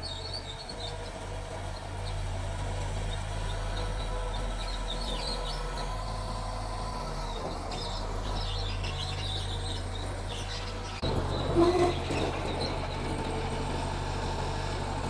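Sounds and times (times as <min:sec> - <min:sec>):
small birds chirping: 0:00.0 - 0:13.4
bulldozer diesel engine running: 0:00.0 - 0:15.0.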